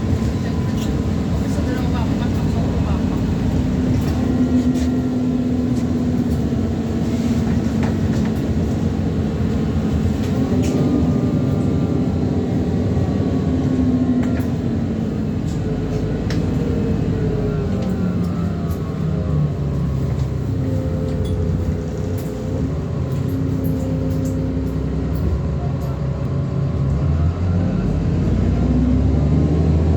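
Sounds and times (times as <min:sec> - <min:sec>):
bus engine drone: 0:00.0 - 0:29.9.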